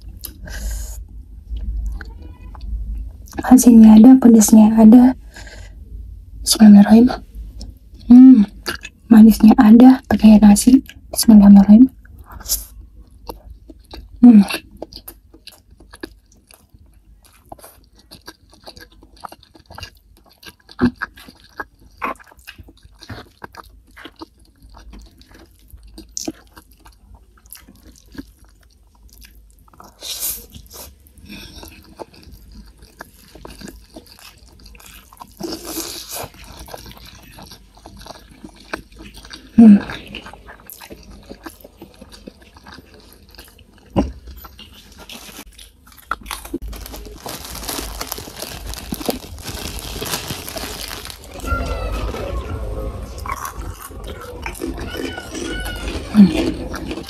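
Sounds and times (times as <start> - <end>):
person chewing and eating: 0.0 - 3.6, 7.2 - 9.1, 11.9 - 57.0.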